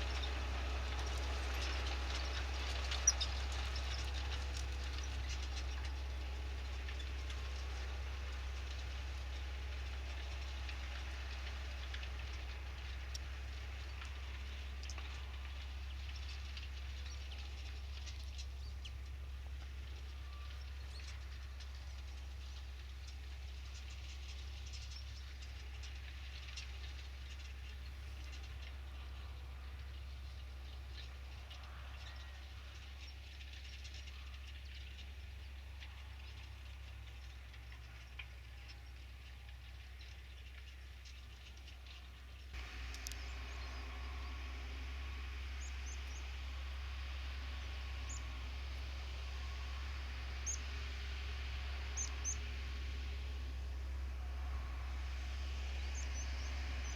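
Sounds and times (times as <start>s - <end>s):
distant tractor engine drone: 0.0s - 56.9s.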